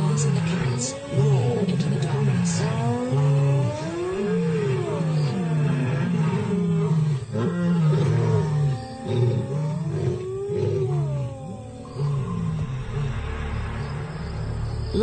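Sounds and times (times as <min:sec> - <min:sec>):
hyena calls: 0:00.0 - 0:13.2
lions roaring: 0:00.0 - 0:13.4.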